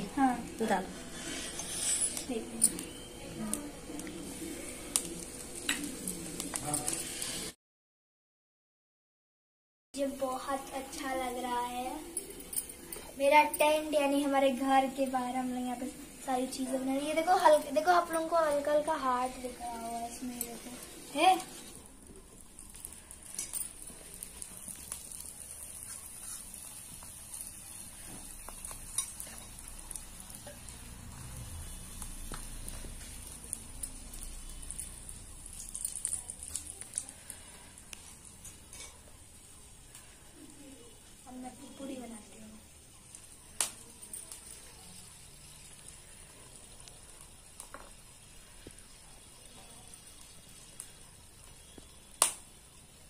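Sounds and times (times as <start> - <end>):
oil sizzling: 0.0 - 7.6, 10.0 - 53.0.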